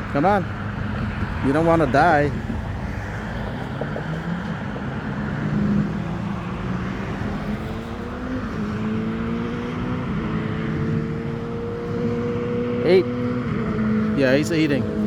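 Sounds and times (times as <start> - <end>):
street traffic: 0.0 - 15.0
vehicle engine humming: 0.0 - 15.0.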